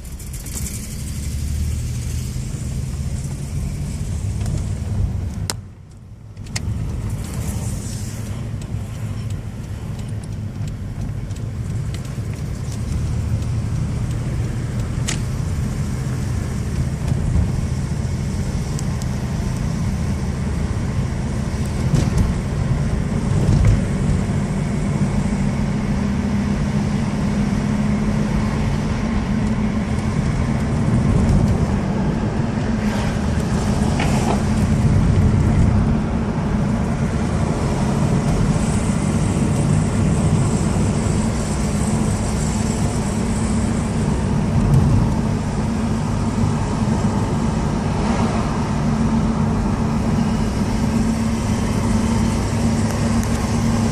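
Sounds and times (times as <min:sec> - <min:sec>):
misfiring car engine: 0:00.0 - 0:53.9
road noise: 0:00.0 - 0:53.9.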